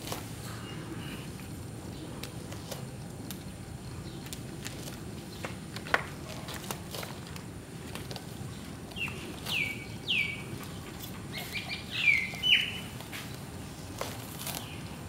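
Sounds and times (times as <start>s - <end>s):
dogs gnawing dry husks: 0.0s - 15.0s.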